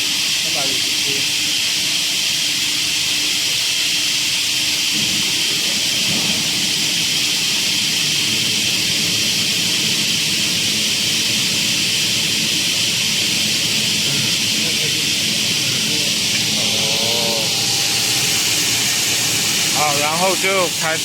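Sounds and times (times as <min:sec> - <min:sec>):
workshop machinery hissing: 0:00.0 - 0:21.0.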